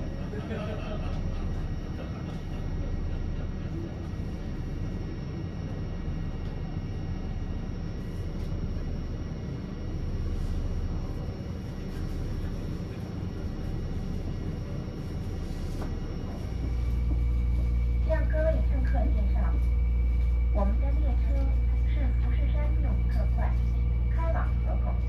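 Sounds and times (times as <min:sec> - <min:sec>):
train carriage rumble: 0:00.0 - 0:25.0.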